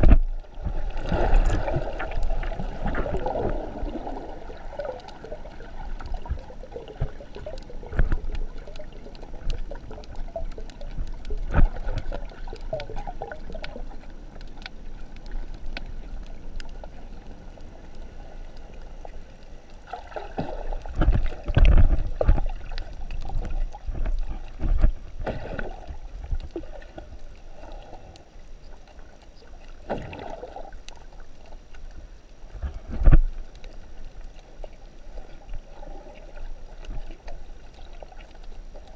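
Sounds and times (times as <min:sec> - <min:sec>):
low thumps and water gushes: 0:00.0 - 0:38.9
muffled underwater water noise: 0:00.0 - 0:38.9.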